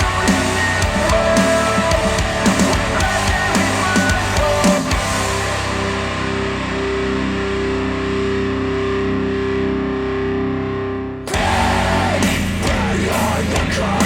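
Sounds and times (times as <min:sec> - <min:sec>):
distorted electric guitar chord: 0:00.0 - 0:14.0
rock band playing: 0:00.0 - 0:14.0.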